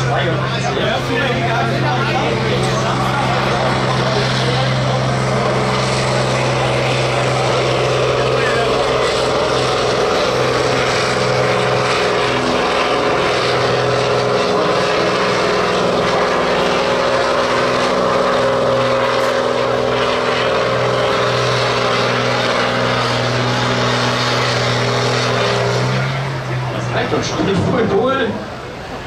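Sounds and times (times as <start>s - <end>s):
tractor diesel engine running hard: 0.0s - 29.0s.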